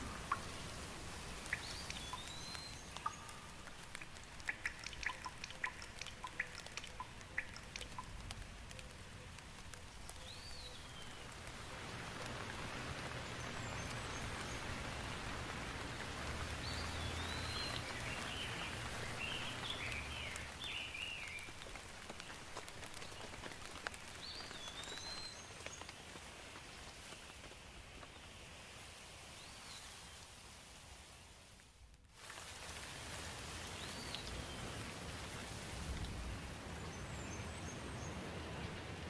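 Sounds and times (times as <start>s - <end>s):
steady rain in a forest: 0.0s - 39.0s.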